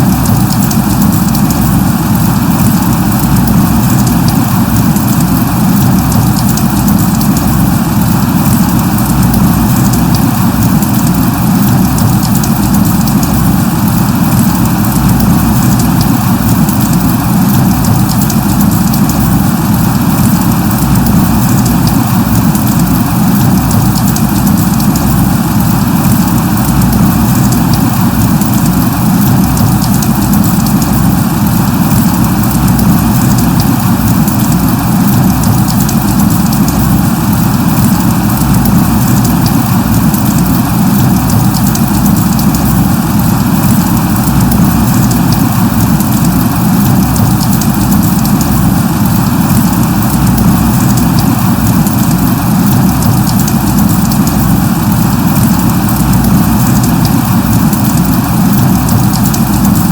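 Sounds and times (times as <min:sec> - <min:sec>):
light rain pattering: 0:00.0 - 0:59.9.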